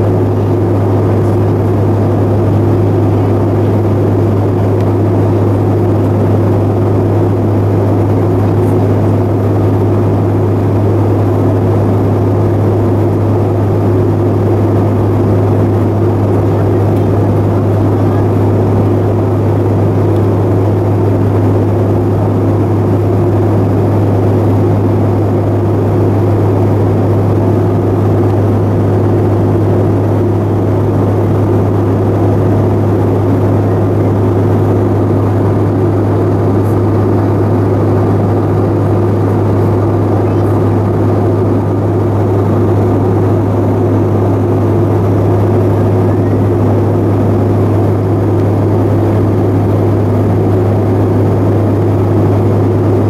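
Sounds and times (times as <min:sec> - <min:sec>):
airplane cabin drone: 0:00.0 - 0:53.0.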